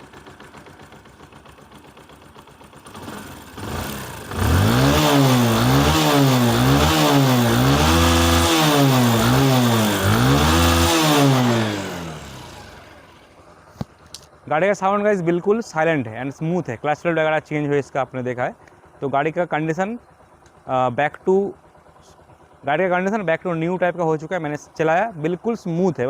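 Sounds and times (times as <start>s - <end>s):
motorcycle engine revving: 0.0s - 17.5s, 18.6s - 26.0s.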